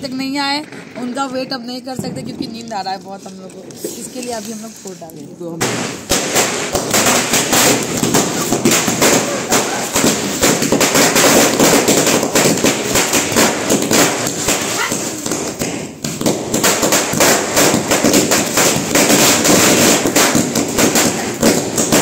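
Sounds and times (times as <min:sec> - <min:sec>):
firecrackers going off: 0:00.0 - 0:22.0.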